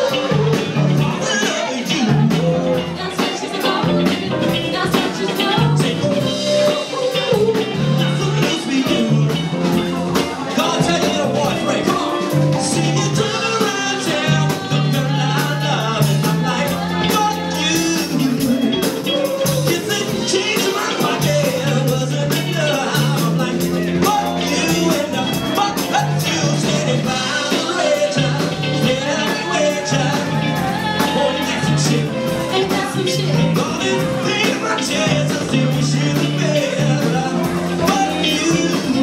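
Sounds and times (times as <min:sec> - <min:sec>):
bass: 0:00.0 - 0:39.0
drum kit and percussion: 0:00.0 - 0:39.0
keyboard: 0:00.0 - 0:39.0
person singing into microphone: 0:00.0 - 0:39.0.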